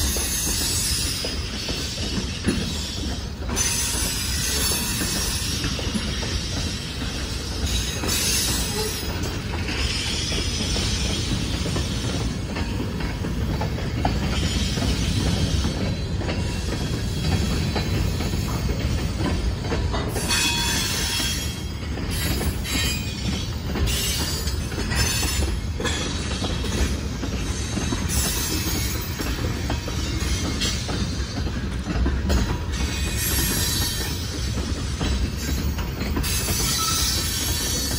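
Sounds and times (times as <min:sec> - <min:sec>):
train wheels rumbling on rail: 0:00.0 - 0:37.9.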